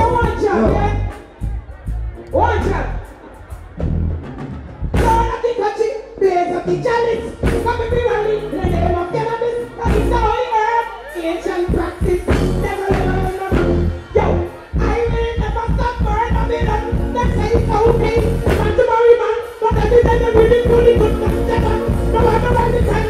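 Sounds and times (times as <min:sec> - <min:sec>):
bass-heavy reggae beat: 0:00.0 - 0:23.0.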